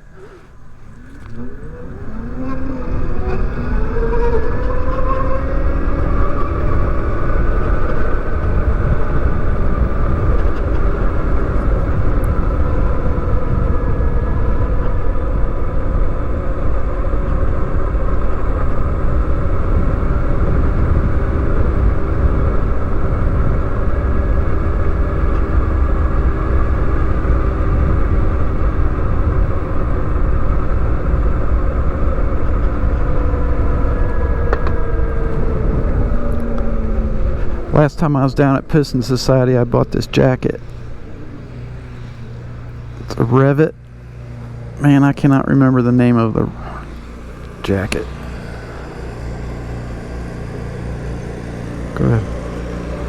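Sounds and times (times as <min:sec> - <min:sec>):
electric motor whine: 0:00.0 - 0:53.0
road noise: 0:00.0 - 0:53.0
wind rumble: 0:00.0 - 0:53.0.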